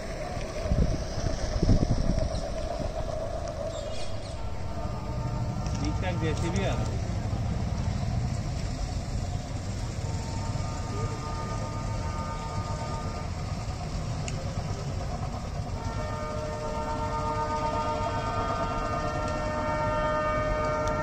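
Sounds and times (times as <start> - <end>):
distant locomotive horn: 0.0 - 21.0
steady low rumble: 0.0 - 21.0.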